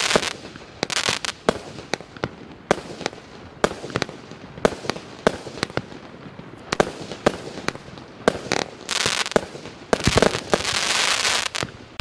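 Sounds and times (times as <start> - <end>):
firework bangs: 0.0 - 12.0
firework crackling hiss: 0.0 - 12.0.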